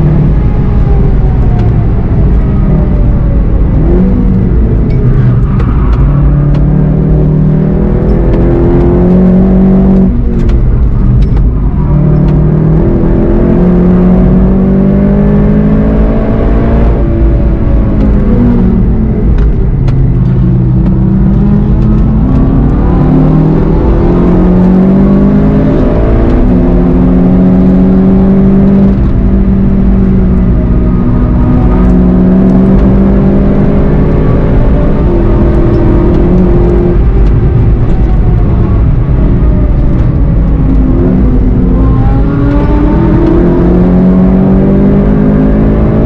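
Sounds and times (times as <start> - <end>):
car engine under full throttle: 0.0 - 46.0.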